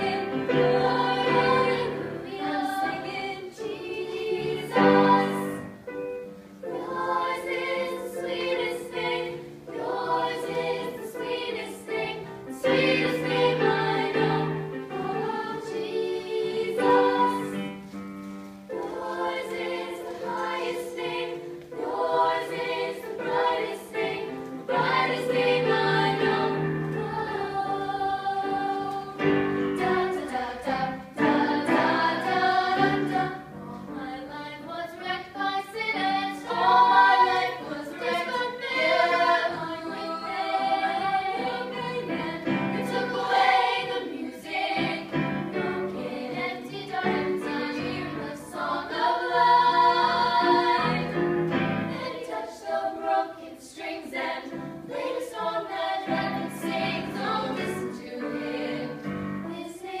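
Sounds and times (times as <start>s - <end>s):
girls choir singing: 0.0s - 60.0s.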